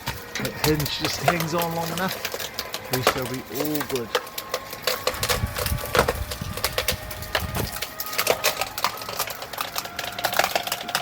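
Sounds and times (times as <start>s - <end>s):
tree wood cracking and splintering: 0.0s - 11.0s.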